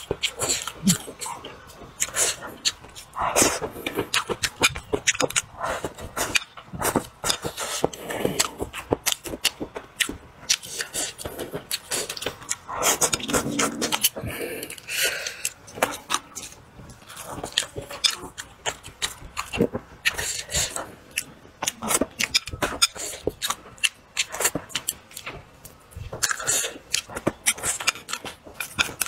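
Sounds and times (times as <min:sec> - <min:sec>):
chewing and lip-smacking: 0:00.0 - 0:29.0.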